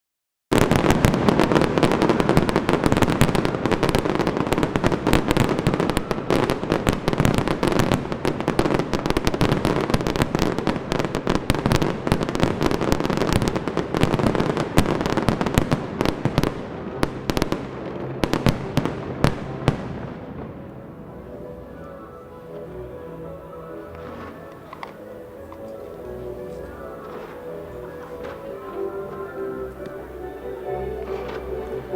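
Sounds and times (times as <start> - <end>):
fireworks bangs and crackling: 0.5 - 31.9.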